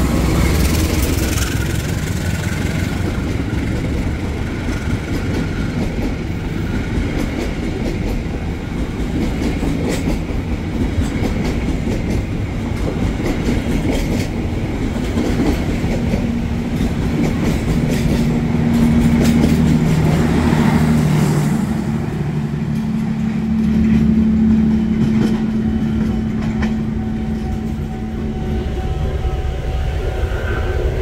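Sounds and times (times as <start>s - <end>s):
train wheels clacking over rail joints: 0.0s - 21.6s, 22.4s - 28.0s
train steady hum: 0.0s - 31.0s.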